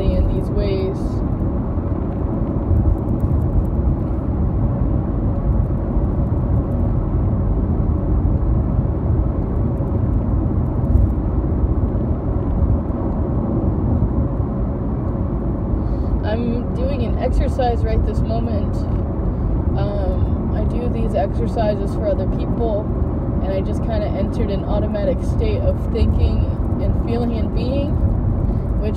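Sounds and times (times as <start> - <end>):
road and engine rumble inside vehicle: 0.0 - 28.9.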